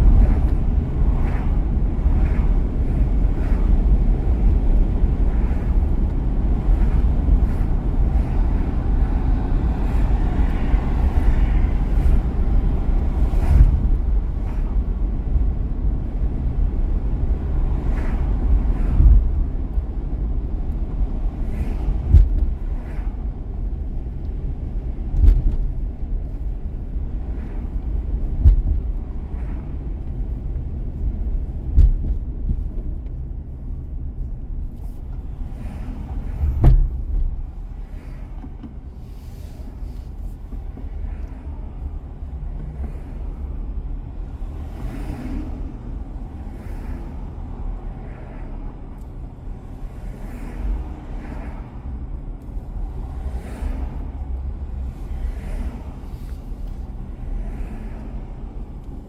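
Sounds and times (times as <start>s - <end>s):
tyre and road rumble: 0.0s - 59.0s.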